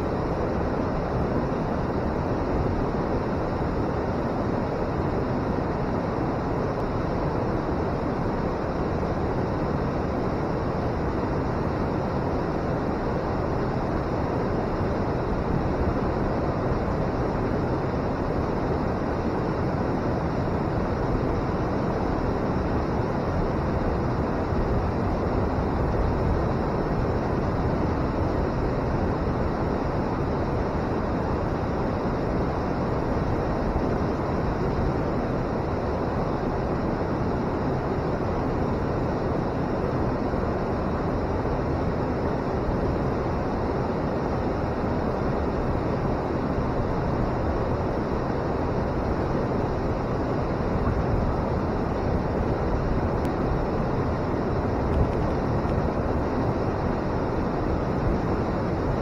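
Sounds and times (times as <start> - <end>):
water roaring over a weir: 0.0 - 59.0.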